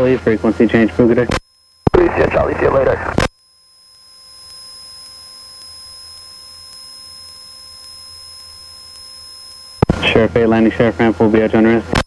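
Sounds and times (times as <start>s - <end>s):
electrical hum: 0.0s - 12.0s
thin high whine: 0.0s - 12.0s.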